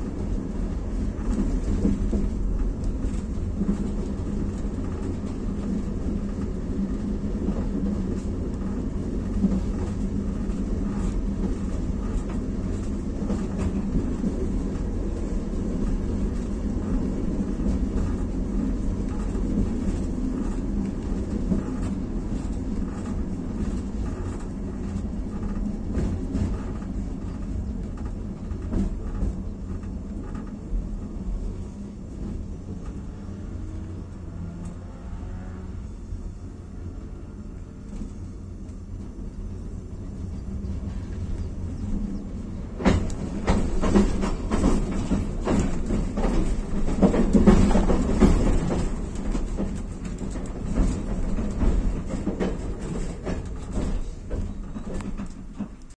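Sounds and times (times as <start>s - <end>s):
wheels clacking over rail joints: 0.0s - 35.6s, 36.8s - 55.9s
tram wheels rumbling on rails: 0.0s - 55.9s.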